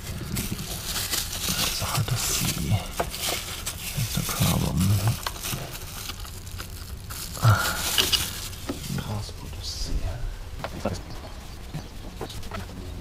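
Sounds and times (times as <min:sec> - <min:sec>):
plastic parts rustling and scraping: 0:00.0 - 0:13.0.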